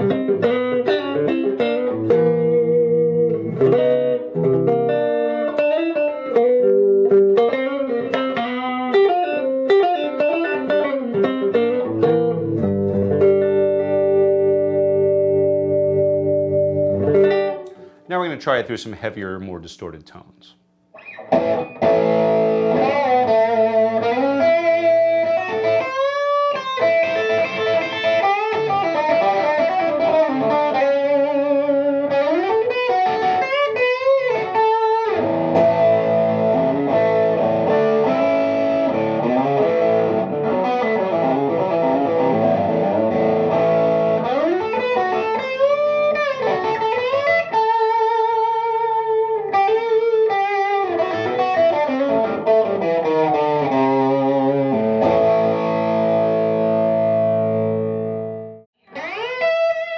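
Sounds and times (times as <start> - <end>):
distorted electric guitar lead: 0.0 - 18.0, 21.0 - 59.9.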